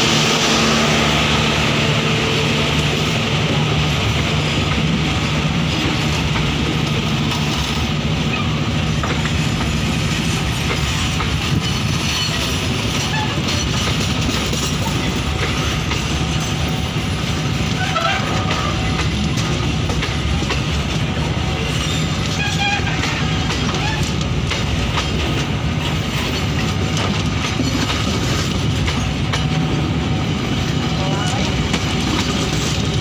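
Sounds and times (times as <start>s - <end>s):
train wheels rumbling on rail: 0.0s - 33.0s
wheels clacking over rail joints: 2.8s - 33.0s.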